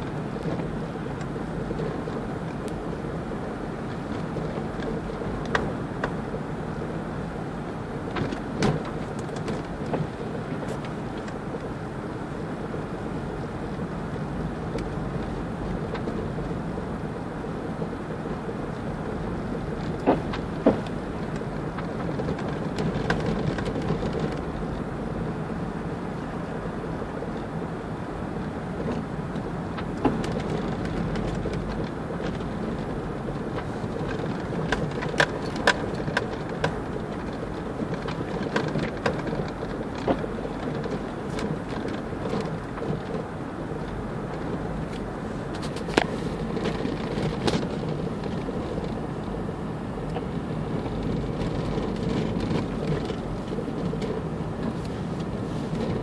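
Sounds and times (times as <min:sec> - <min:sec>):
car engine and tyres on snow: 0:00.0 - 0:56.0.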